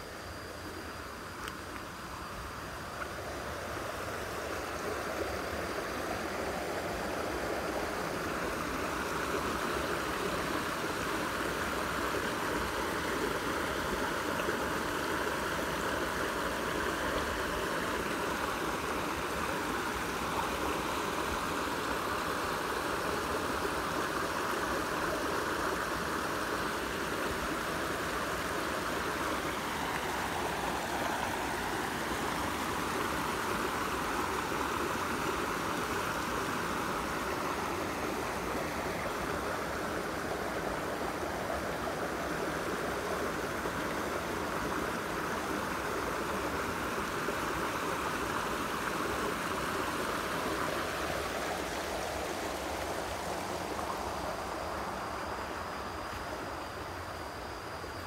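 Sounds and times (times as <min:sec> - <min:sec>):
floodwater rushing over a weir: 0:01.3 - 0:58.0.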